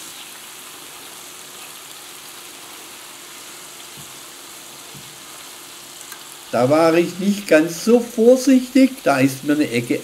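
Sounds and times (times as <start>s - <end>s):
sauce sizzling in frying pan: 0.0s - 10.0s.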